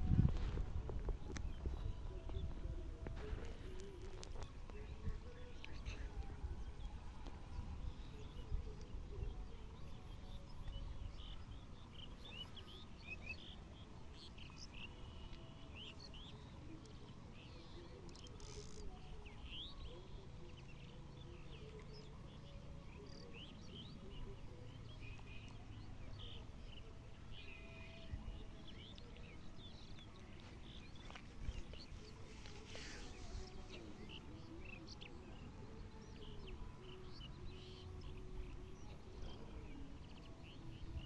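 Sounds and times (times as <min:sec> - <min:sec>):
faint low outdoor rumble: 0:00.0 - 0:41.0
small birds chirping: 0:00.9 - 0:41.0.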